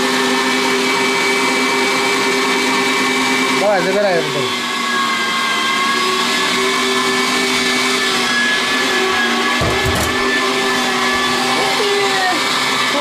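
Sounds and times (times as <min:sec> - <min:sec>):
meat grinder motor whine: 0:00.0 - 0:13.0.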